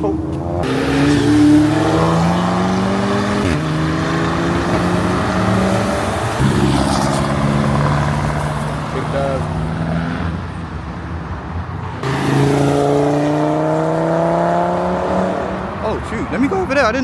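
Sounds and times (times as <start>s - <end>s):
car accelerating through gears: 0.2s - 10.6s, 12.0s - 15.8s.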